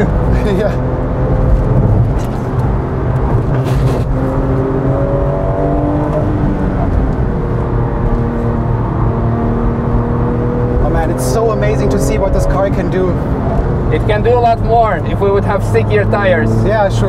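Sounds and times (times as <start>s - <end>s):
car engine drone from inside: 0.0s - 17.0s
road and tyre noise: 0.0s - 17.0s.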